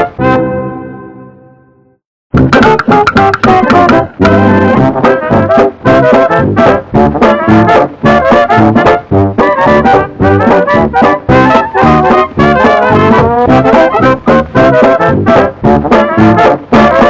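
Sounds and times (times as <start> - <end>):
brass music with punchy notes: 0.0 - 1.2, 2.3 - 17.0.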